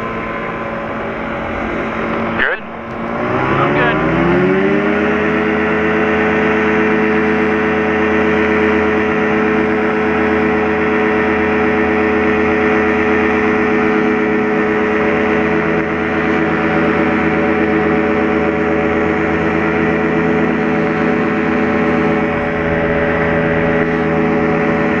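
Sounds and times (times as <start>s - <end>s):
light aircraft engine drone: 0.0s - 25.0s.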